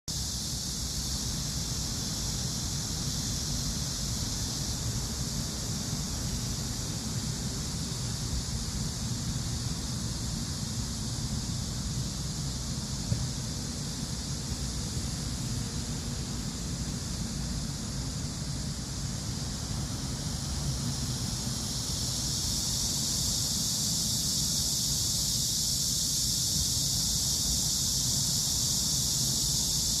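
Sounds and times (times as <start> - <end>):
cicadas buzzing: 0.1 - 30.0.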